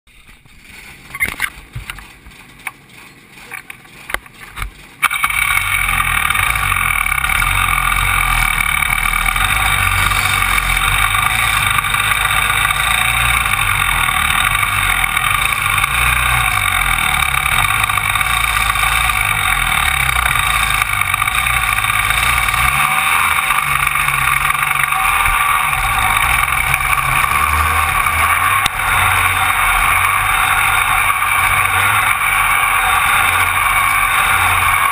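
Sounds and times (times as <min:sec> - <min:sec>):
kart engines running: 0:00.1 - 0:34.9.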